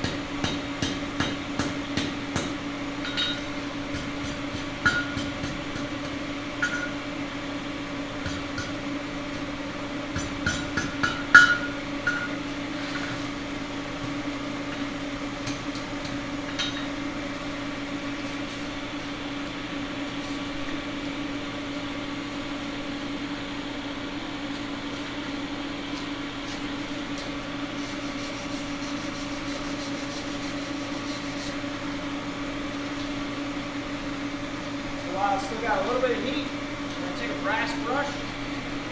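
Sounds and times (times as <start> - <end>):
steady motor hum: 0.0 - 38.9.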